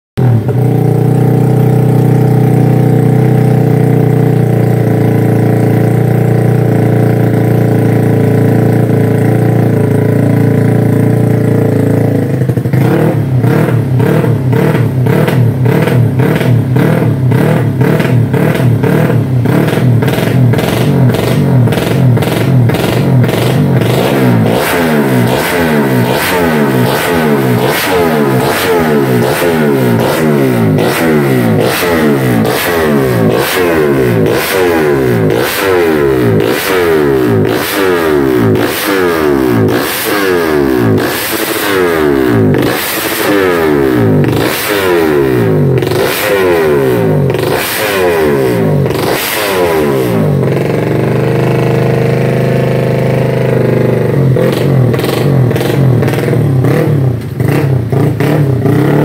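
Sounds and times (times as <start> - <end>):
motorcycle engine revving: 0.2 - 59.0.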